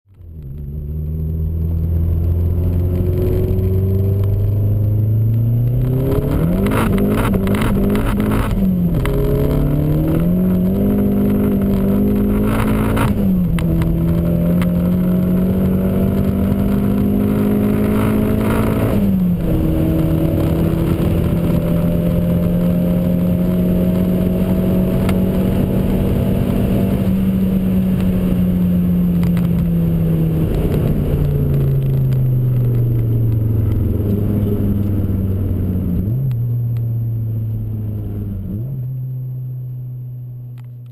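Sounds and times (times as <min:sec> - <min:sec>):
car engine accelerating: 0:00.1 - 0:40.9.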